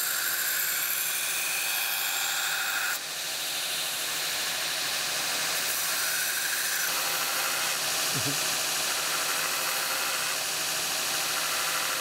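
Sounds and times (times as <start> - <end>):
belt grinder grinding steel: 0.0 - 12.0.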